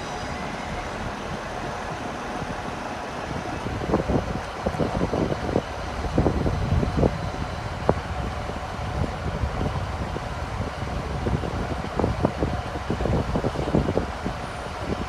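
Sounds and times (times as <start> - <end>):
train knocks and clicks: 0.0 - 15.0
train rumbling: 0.0 - 15.0.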